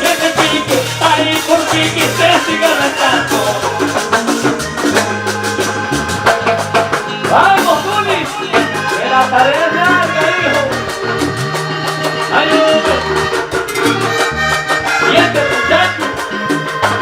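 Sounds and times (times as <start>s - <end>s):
latin-style song: 0.0s - 17.0s
repeating bass line: 0.0s - 17.0s.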